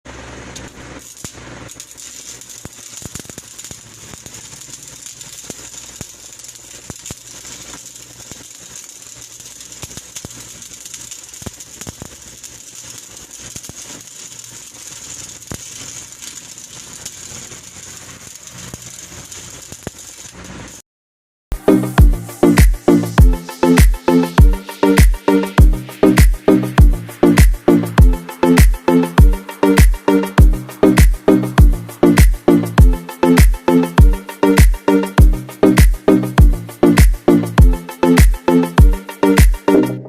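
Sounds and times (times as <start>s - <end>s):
arc welding crackling hiss: 0.1s - 20.8s, 21.5s - 39.9s
welding pops: 0.1s - 20.8s, 22.6s - 39.6s.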